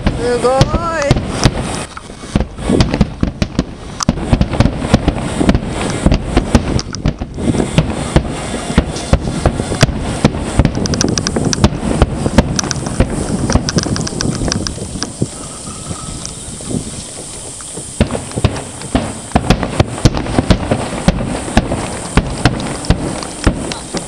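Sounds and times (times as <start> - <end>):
firework crackling: 0.0 - 24.0
firework shells booming: 0.0 - 24.0.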